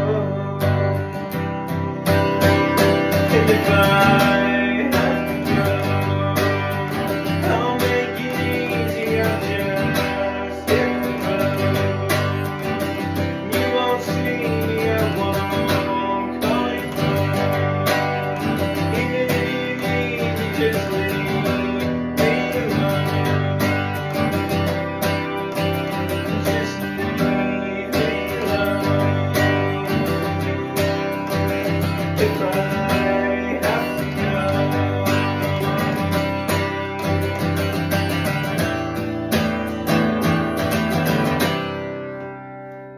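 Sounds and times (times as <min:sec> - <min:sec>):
acoustic guitar strumming chords: 0:00.0 - 0:42.9.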